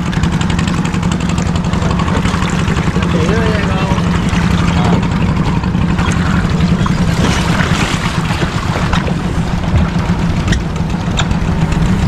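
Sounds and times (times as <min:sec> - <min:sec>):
small boat engine humming: 0:00.0 - 0:12.0
water noise: 0:00.0 - 0:12.0.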